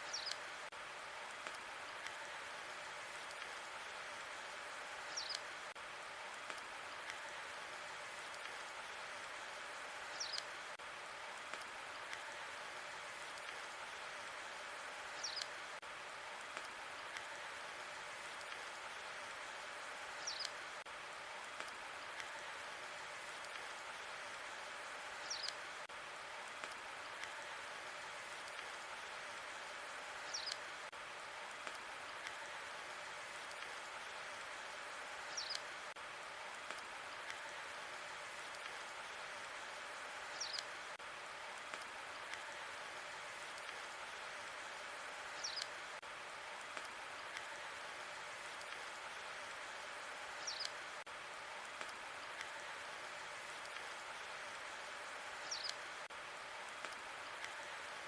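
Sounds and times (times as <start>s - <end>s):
log fire hissing and crackling: 0.0s - 58.0s.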